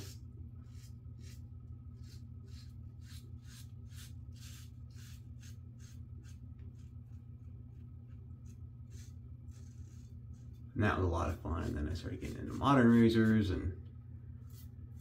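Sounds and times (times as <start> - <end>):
razor scraping stubble: 0.0 - 10.7, 11.5 - 13.6
steady low hum: 0.0 - 15.0.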